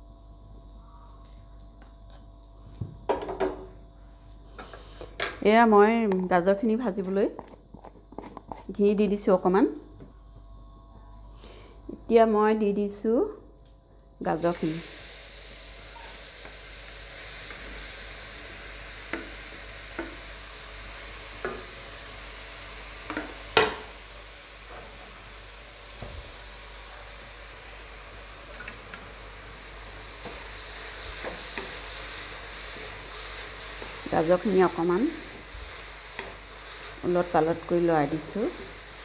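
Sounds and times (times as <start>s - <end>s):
carrots sizzling in hot fat: 0.0s - 9.6s, 14.2s - 39.0s.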